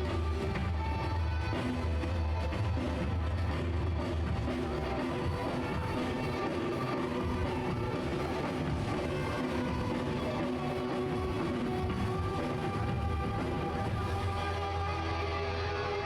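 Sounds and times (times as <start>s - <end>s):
instrumental music: 0.0s - 16.0s.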